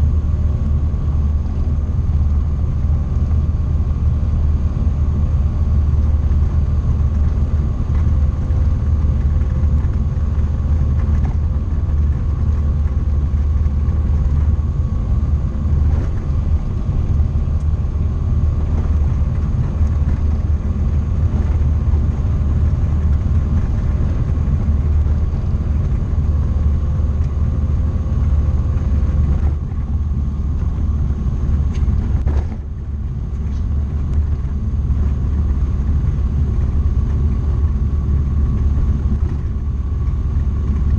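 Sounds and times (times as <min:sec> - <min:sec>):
aircraft engine droning: 0:00.0 - 0:40.9.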